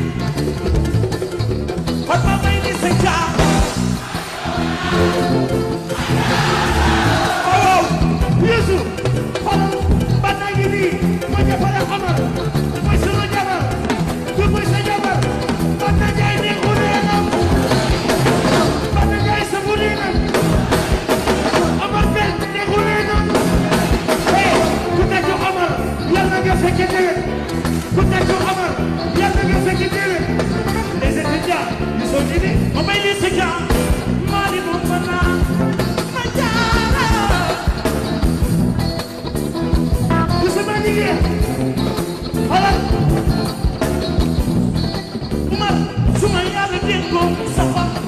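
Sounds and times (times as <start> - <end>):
live band playing: 0.0 - 48.0.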